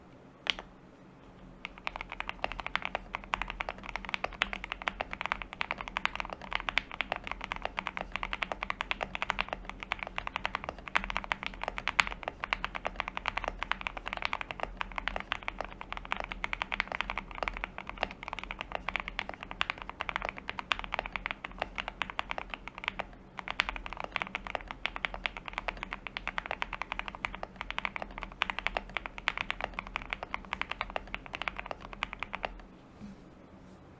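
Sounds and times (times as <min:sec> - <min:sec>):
fast mechanical keyboard typing: 0:01.6 - 0:32.7.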